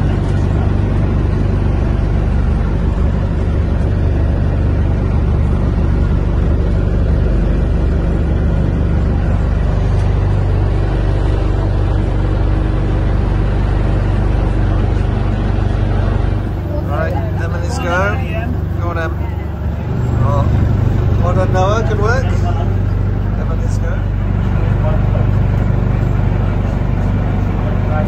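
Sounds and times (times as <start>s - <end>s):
boat engine running steadily: 0.0s - 28.0s.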